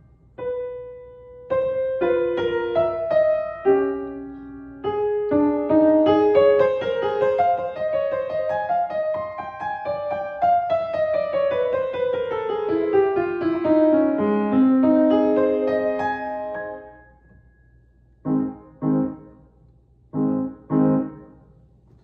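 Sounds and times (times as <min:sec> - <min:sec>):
solo grand piano piece: 0:00.0 - 0:22.0.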